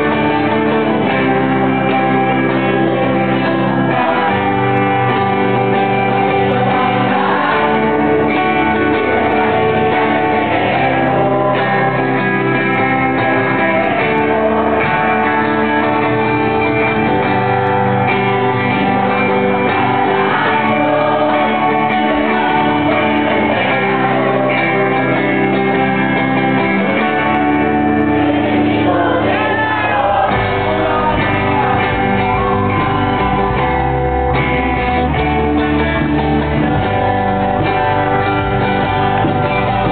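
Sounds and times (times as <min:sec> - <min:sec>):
live band playing: 0:00.0 - 0:39.9
person singing: 0:00.0 - 0:39.9.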